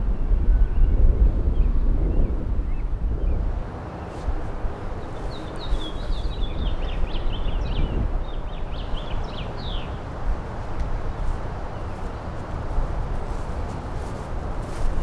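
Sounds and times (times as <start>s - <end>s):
low outdoor rumble: 0.0s - 15.0s
songbird chirping: 1.6s - 15.0s.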